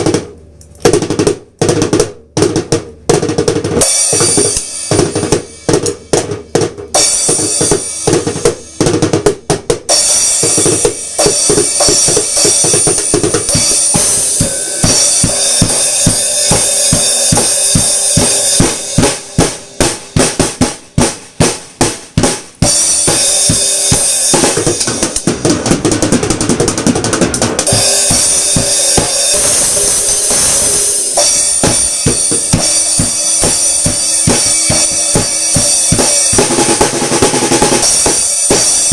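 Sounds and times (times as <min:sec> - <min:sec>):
drum kit rock beat: 0:00.0 - 0:38.9.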